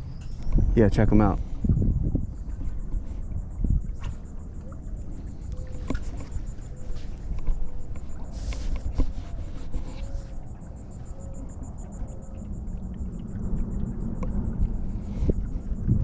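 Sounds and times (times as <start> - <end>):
insect chirping: 0.0 - 16.0
low rumble: 0.0 - 16.0.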